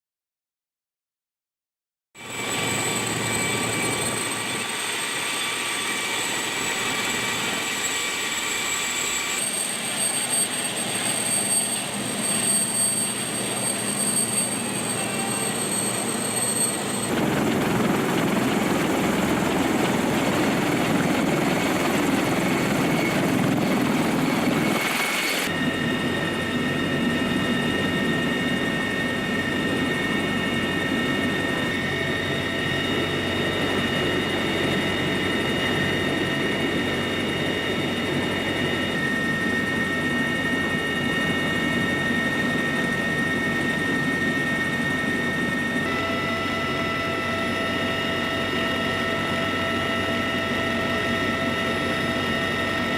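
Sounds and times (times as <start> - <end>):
helicopter rotor and engine noise: 2.2 - 52.9.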